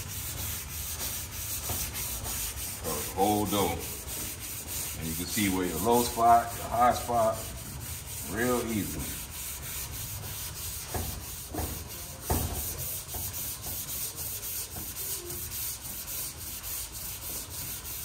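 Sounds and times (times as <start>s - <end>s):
sanding block rasping: 0.0s - 18.0s.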